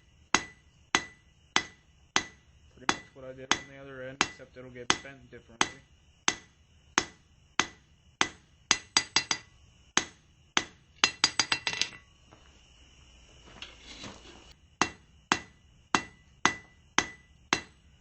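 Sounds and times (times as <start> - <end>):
hammer striking hot steel on anvil: 0.3 - 12.1, 14.8 - 17.8.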